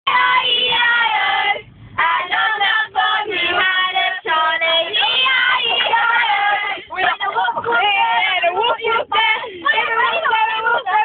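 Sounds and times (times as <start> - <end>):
girls singing: 0.1 - 11.0.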